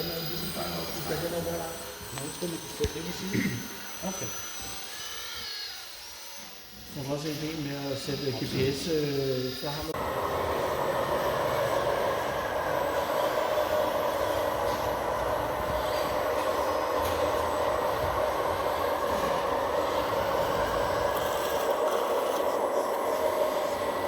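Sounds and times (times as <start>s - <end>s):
hiss: 0.0s - 24.0s
hydraulic pump whining: 0.0s - 24.0s.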